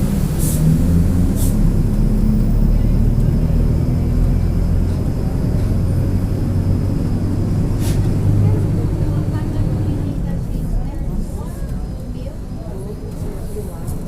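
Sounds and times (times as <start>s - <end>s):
bus diesel engine drone: 0.0s - 14.0s.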